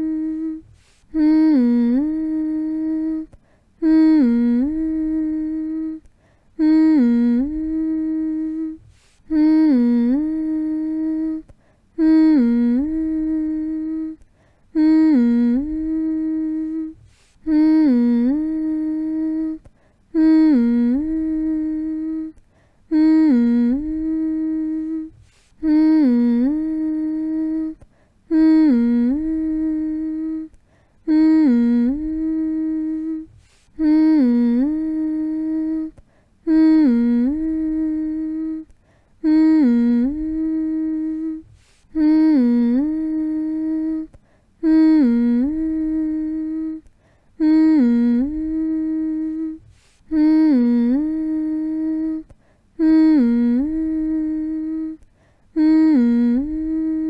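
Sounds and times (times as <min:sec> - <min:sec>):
person humming: 0:00.0 - 0:57.0.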